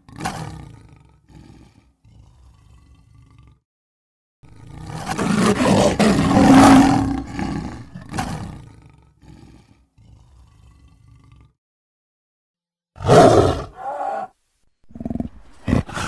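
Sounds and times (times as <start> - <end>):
lion roaring: 0.0 - 3.6, 4.5 - 11.6, 13.0 - 14.3, 14.9 - 16.0.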